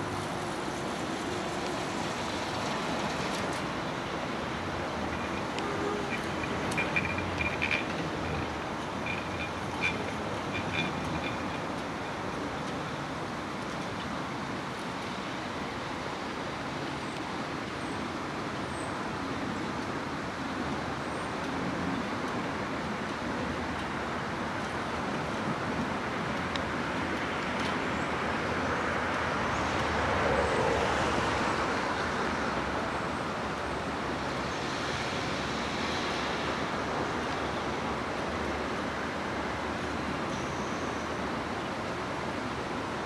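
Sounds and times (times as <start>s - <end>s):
streetcar rolling along track: 0.0s - 43.0s
traffic-like noise: 0.0s - 43.0s.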